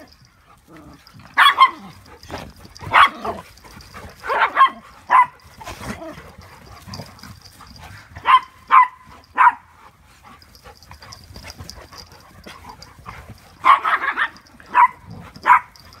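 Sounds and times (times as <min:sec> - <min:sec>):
dogs barking: 0:01.0 - 0:09.8, 0:10.5 - 0:16.0.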